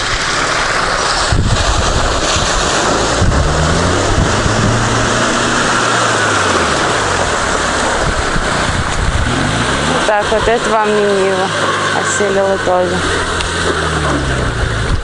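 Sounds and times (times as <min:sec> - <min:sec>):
car engine pulling under load: 0:00.0 - 0:15.0
water rushing and splashing: 0:00.0 - 0:15.0
wind buffeting microphone: 0:00.0 - 0:15.0.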